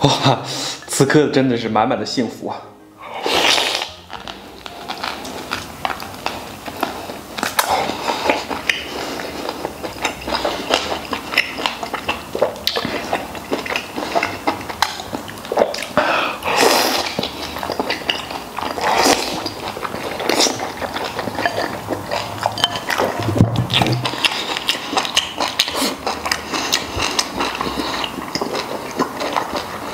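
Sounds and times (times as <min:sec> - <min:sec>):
chewing and lip-smacking: 0:03.3 - 0:29.9.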